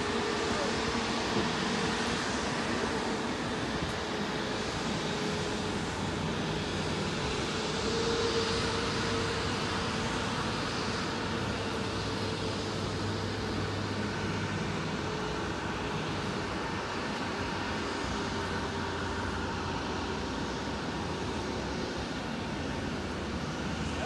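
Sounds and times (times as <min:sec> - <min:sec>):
jet engines taxiing rumble: 0:00.0 - 0:24.0.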